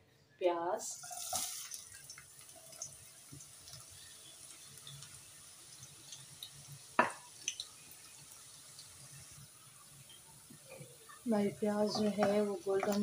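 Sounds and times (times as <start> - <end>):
onions sizzling in oil: 0.8 - 13.0.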